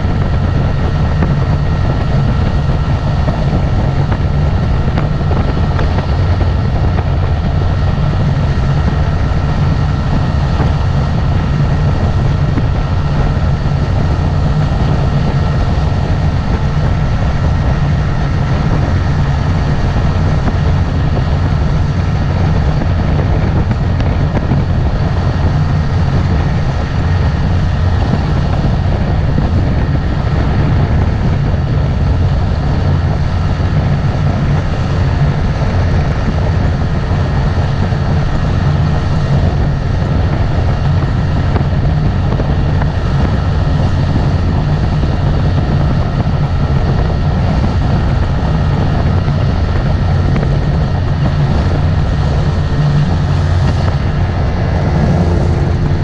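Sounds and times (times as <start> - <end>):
motorboat engine droning: 0.0 - 56.0.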